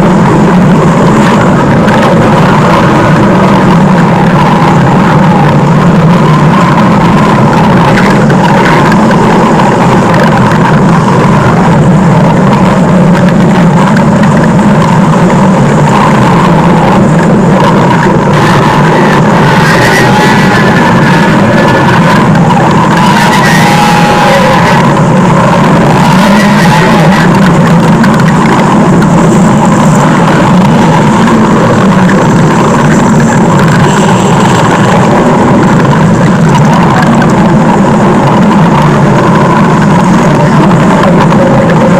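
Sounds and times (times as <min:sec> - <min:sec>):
stomach growling: 0:00.0 - 0:41.9.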